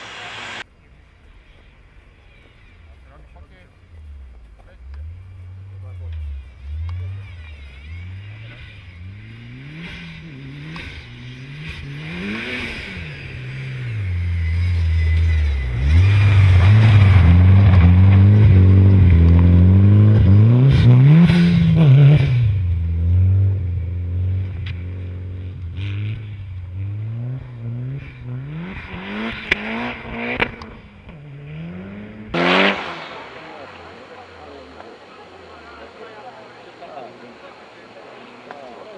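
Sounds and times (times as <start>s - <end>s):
rally car engine revving: 0.0s - 0.6s, 3.7s - 38.9s.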